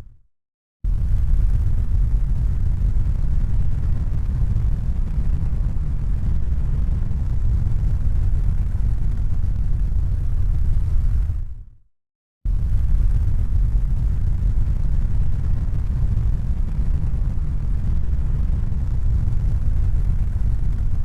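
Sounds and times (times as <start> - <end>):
loud low rumble with hiss: 0.9 - 11.7, 12.5 - 21.0.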